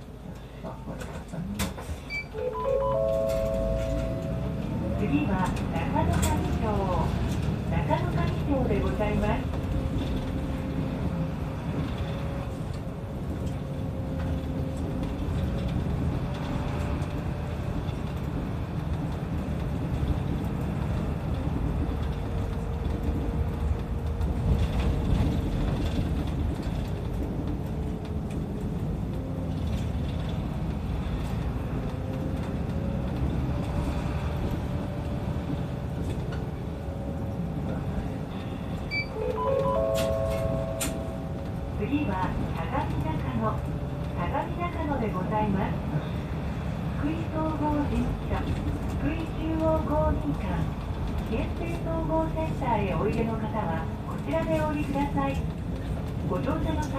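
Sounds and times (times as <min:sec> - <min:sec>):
bus engine rumbling: 0:00.0 - 0:56.9.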